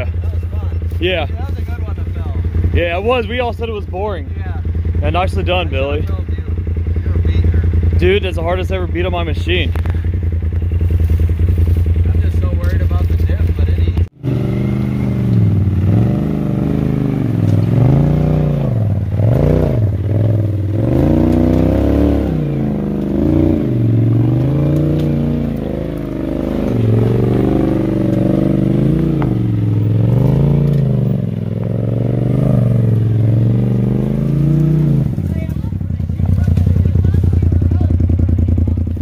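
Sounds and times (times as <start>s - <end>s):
engine revving: 0.0s - 39.0s.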